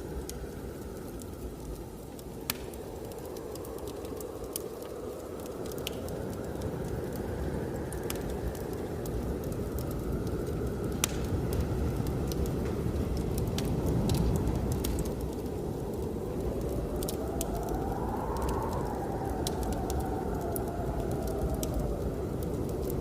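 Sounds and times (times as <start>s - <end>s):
blizzard wind rumbling: 0.0s - 23.0s
wood fire crackling: 0.0s - 23.0s.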